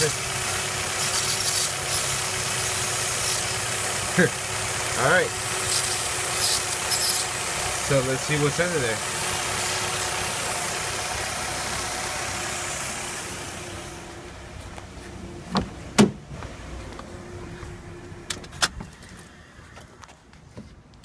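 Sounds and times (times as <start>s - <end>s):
car engine idling: 0.0s - 20.4s.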